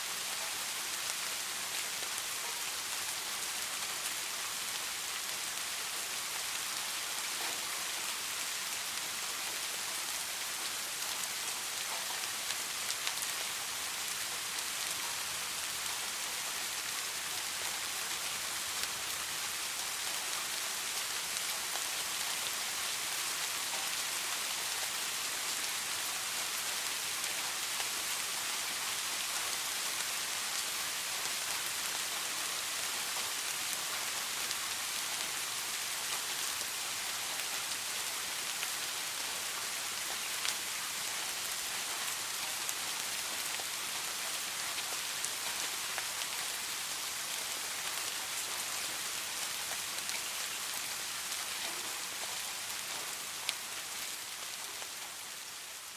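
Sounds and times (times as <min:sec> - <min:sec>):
soft rain: 0:00.0 - 0:55.9.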